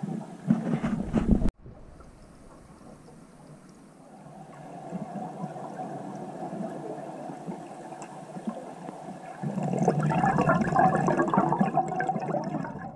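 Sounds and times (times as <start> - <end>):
underwater bubbling and gurgling: 0.0 - 12.9.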